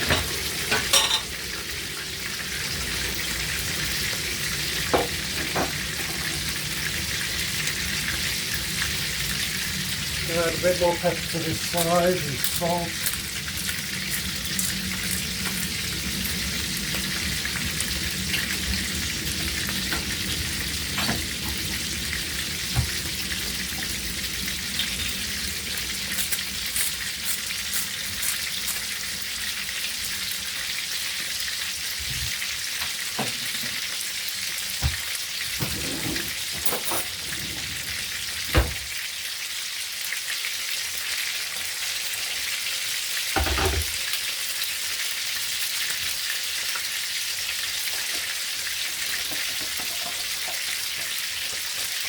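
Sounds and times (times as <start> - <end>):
sausages sizzling in a frying pan: 0.0 - 52.0.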